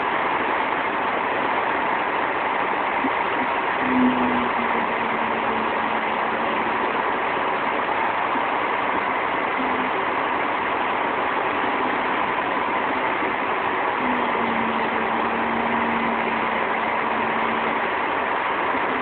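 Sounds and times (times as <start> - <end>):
faint held hum: 0.0 - 19.0
concrete truck engine rumbling: 3.0 - 19.0.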